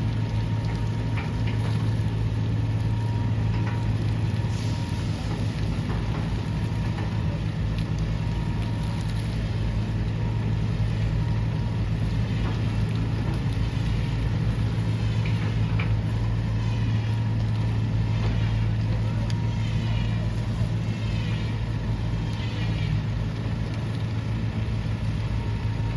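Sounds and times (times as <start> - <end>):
vehicle engine droning: 0.0 - 25.9.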